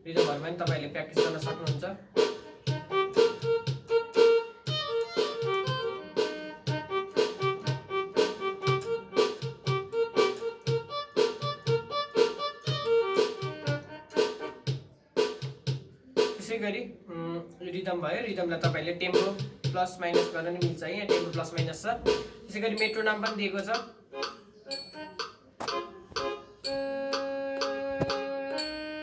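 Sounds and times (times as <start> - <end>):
keyboard drum rhythm with accompaniment: 0.0 - 16.6, 18.6 - 29.0.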